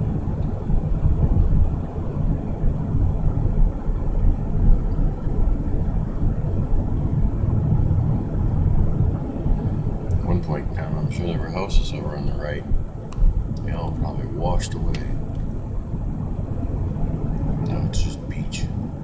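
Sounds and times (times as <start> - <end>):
car driving heard from inside: 0.0 - 19.0.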